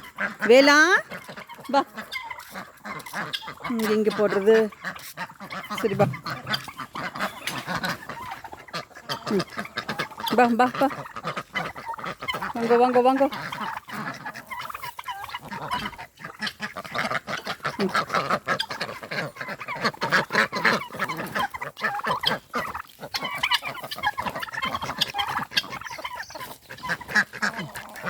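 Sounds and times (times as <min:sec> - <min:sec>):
poultry calling: 0:00.0 - 0:28.0.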